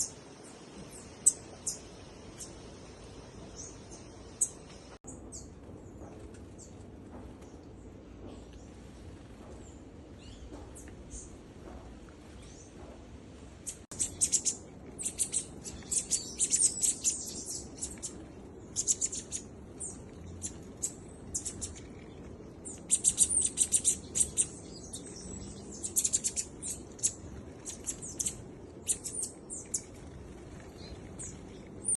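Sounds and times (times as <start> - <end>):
small birds chirping: 0.0 - 12.9, 13.6 - 32.0.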